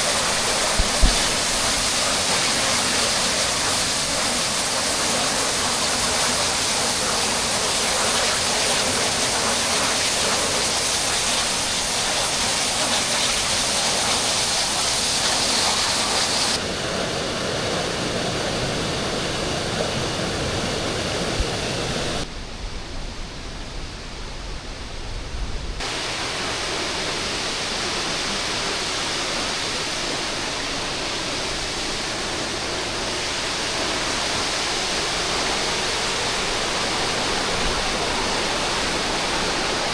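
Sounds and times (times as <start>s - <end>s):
waterfall rushing: 0.0s - 22.2s, 25.8s - 39.9s.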